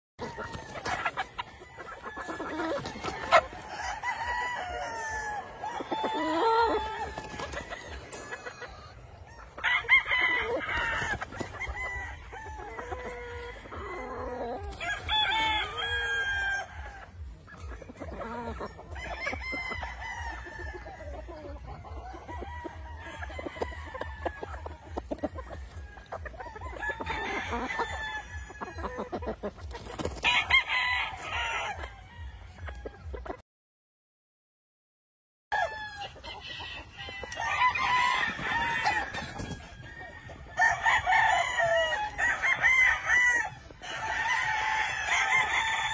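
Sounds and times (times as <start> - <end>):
roosters crowing: 0.2 - 32.8, 35.5 - 45.9
chickens clucking: 0.2 - 33.4, 35.5 - 45.9.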